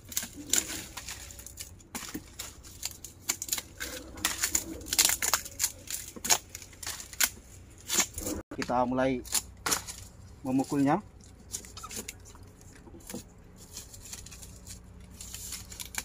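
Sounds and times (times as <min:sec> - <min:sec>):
dry palm fronds crackling: 0:00.0 - 0:16.0.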